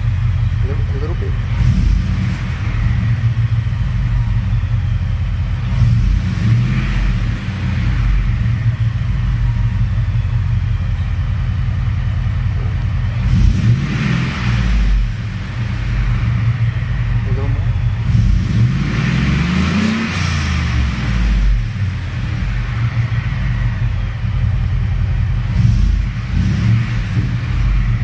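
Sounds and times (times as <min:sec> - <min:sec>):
pickup engine rumbling and revving: 0:00.0 - 0:28.0.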